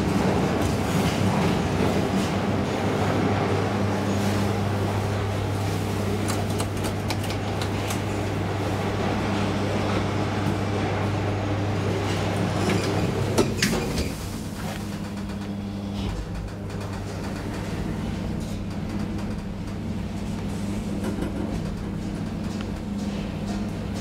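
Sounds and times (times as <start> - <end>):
elevator doors opening: 0.0 - 24.0
elevator low hum: 0.0 - 24.0.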